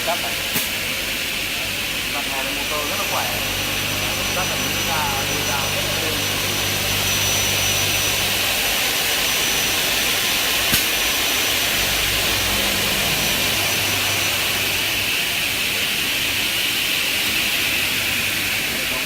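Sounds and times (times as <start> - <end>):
saw motors whirring: 1.2 - 17.8.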